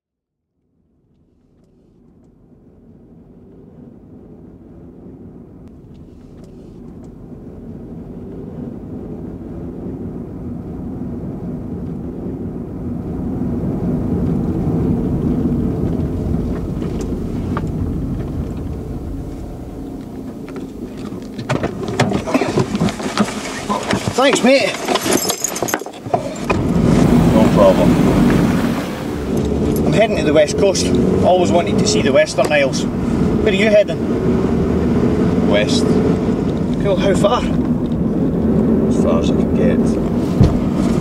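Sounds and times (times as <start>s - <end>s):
car engine and tyre noise: 0.6s - 41.0s.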